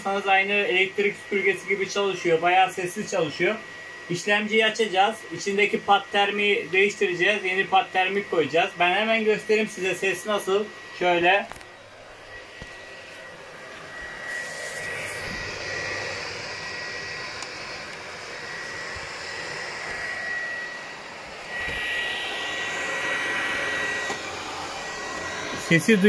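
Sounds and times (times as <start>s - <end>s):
cooling fan whirring: 0.0s - 26.0s.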